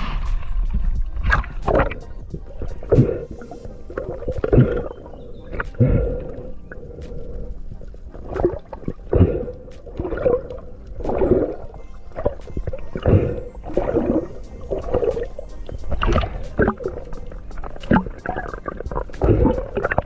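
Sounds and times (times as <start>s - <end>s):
muffled underwater sloshing: 0.0s - 20.0s.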